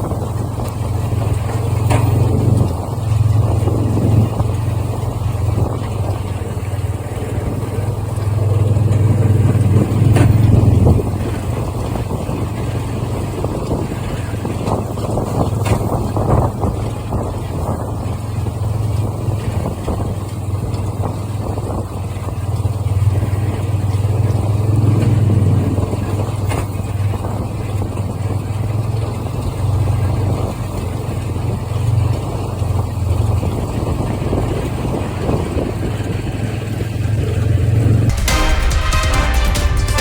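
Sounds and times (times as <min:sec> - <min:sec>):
engine humming: 0:00.0 - 0:40.0.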